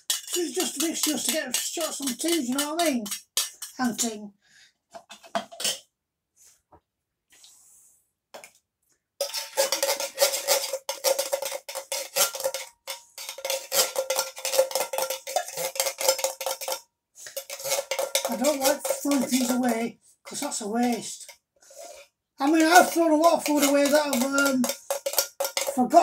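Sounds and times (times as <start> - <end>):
spoon scraping a tin can: 0.0 - 4.2, 9.2 - 26.0.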